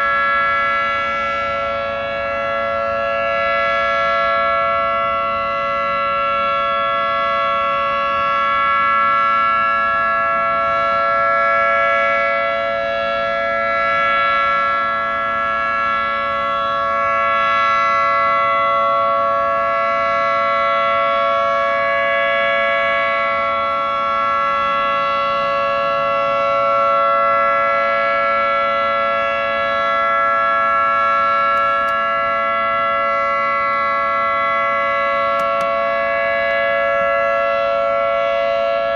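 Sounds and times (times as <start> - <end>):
rotating siren steady tone: 0.0 - 38.9.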